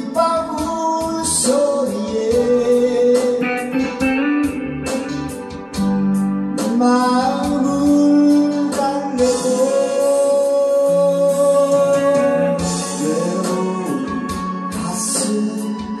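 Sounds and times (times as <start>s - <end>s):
man singing pop ballad: 0.0s - 5.0s, 5.8s - 16.0s
electric guitar: 0.0s - 16.0s.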